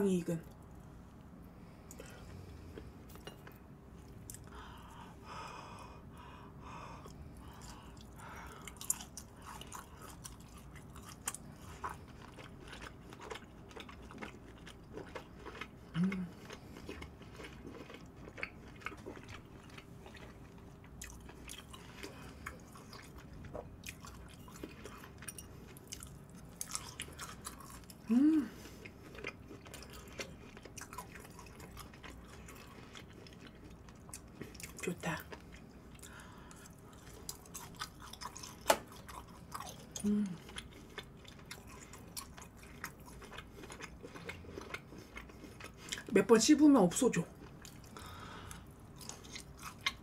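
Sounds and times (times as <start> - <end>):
chewing: 7.0 - 46.1, 47.3 - 50.0.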